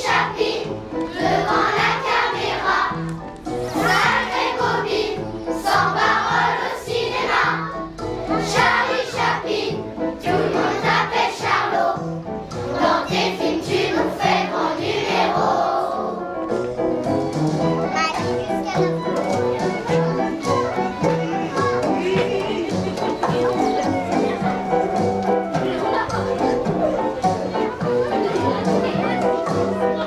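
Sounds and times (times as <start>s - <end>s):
children's choir singing: 0.0s - 16.5s, 19.2s - 30.0s
instrumental accompaniment: 0.0s - 30.0s.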